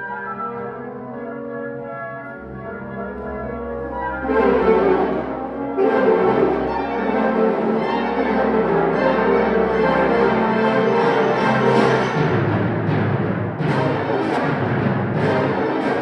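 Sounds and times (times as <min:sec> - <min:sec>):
wind band playing: 0:00.0 - 0:16.0.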